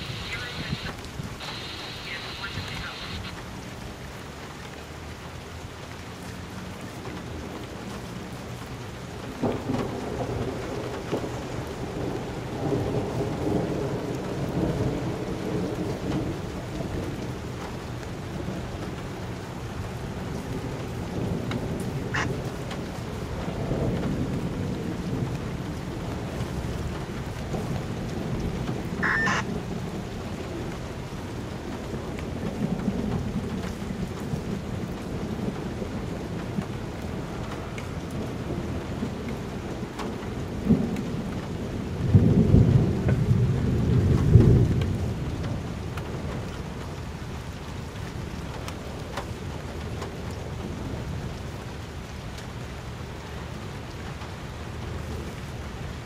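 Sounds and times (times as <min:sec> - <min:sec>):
thunder crack and rumble: 0:00.0 - 0:03.5, 0:09.1 - 0:52.5
steady rain: 0:00.0 - 0:56.0.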